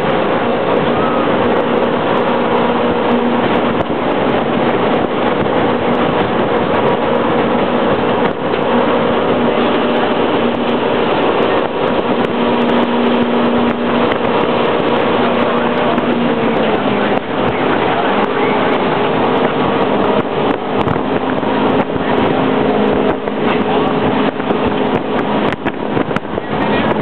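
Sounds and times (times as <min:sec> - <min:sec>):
boat engine drone: 0:00.0 - 0:27.0
rush of wind and water: 0:00.0 - 0:27.0.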